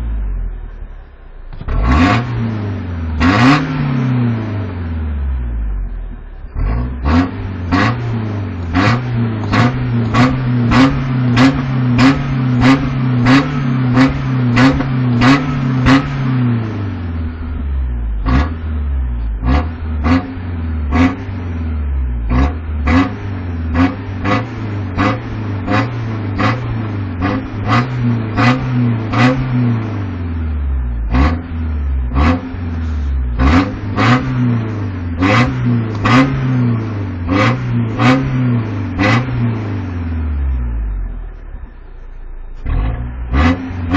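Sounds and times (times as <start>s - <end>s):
pickup engine throttle blips: 0.0s - 43.9s.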